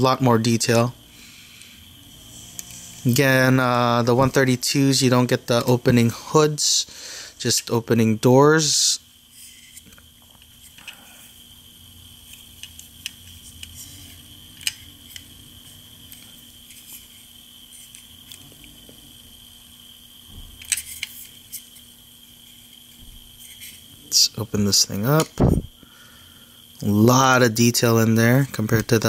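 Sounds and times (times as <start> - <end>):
faint electronic hum: 0.0 - 29.0.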